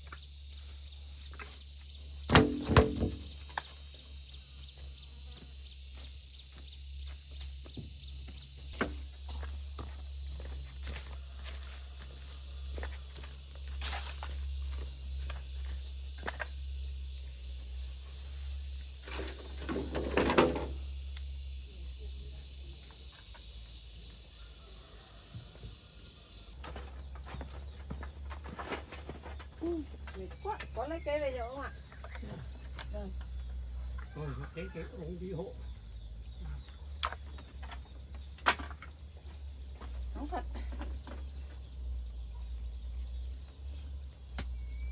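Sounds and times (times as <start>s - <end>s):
crickets chirring: 0.0s - 44.9s
high drone of insects: 0.0s - 44.9s.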